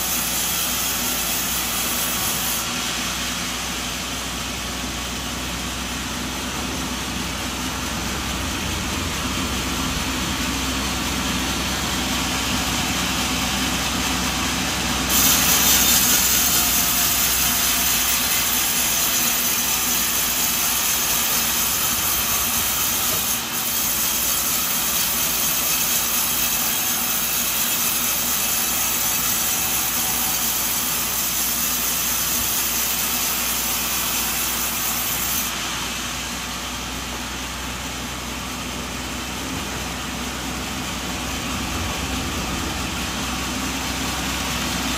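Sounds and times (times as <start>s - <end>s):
saw blade cutting log: 0.0s - 8.4s, 10.0s - 44.9s
sawmill engine drone: 0.0s - 44.9s.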